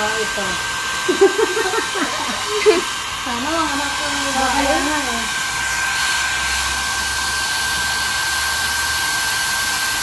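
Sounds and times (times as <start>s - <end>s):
electric blower running: 0.0s - 10.0s.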